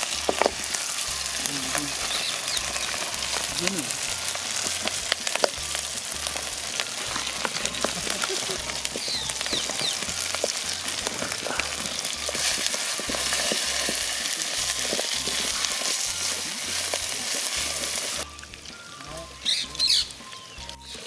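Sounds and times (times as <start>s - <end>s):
meat frying in hot oil: 0.0s - 21.0s.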